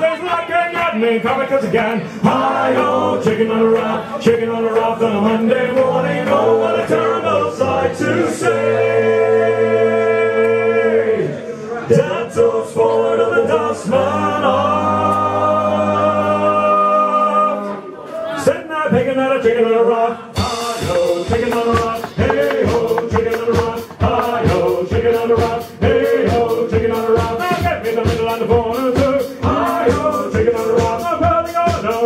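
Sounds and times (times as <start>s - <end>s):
men singing in harmony: 1.6s - 17.8s, 19.1s - 32.0s.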